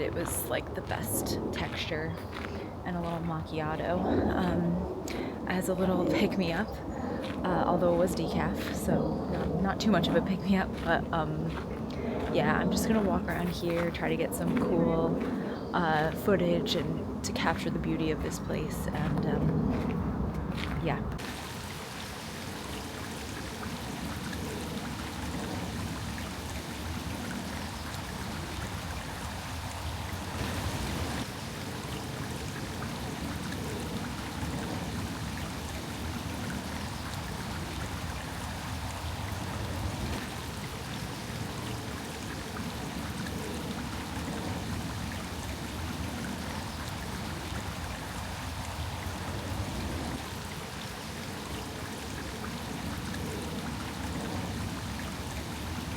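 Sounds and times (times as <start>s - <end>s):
stream water running: 0.0s - 55.9s.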